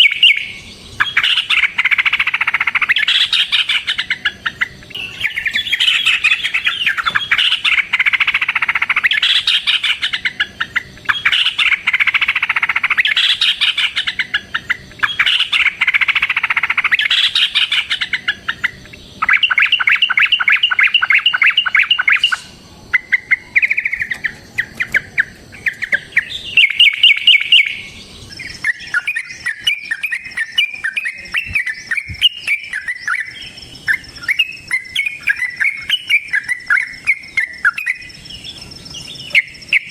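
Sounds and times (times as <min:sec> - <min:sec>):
bird rapid chattering song: 0:00.0 - 0:39.9.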